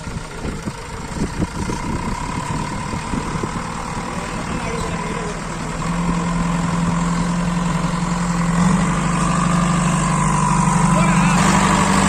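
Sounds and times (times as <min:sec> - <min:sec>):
backhoe diesel engine revving: 0:00.0 - 0:12.0.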